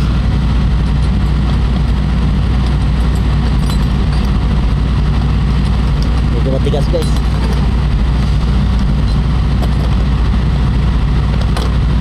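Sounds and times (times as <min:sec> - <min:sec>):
engine idling rumble: 0:00.0 - 0:12.0.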